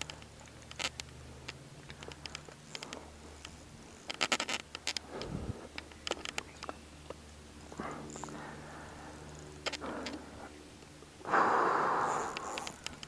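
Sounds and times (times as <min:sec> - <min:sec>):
fishing reel clicks and ticks: 0:00.0 - 0:07.2, 0:07.8 - 0:08.5, 0:09.2 - 0:10.2, 0:10.8 - 0:13.0.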